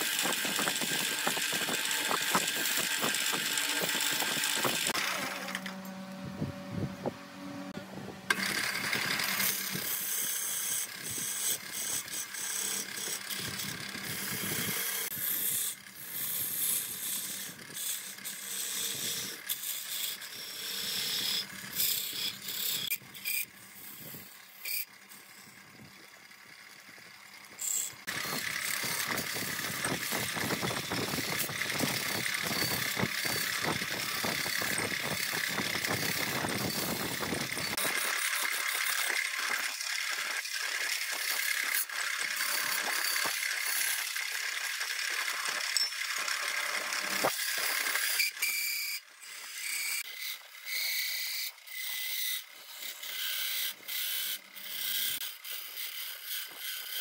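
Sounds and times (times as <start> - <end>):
lathe gouge scraping wood: 0.0 - 25.6, 27.6 - 57.0.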